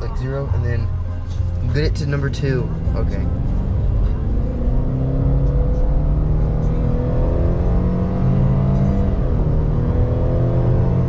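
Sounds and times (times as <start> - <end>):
car engine accelerating: 0.0 - 11.0
music playing in car: 0.0 - 11.0.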